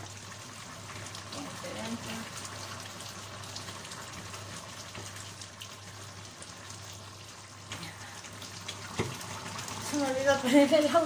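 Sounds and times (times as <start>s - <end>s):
stew simmering in a metal pan: 0.0s - 11.0s.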